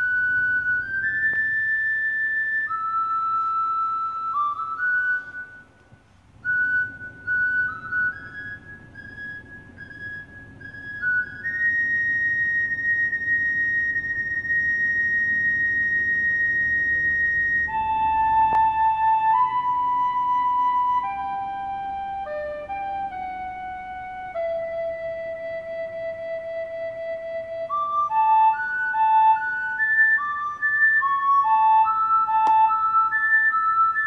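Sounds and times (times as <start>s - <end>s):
recorder playing slow melody: 0.0s - 34.0s.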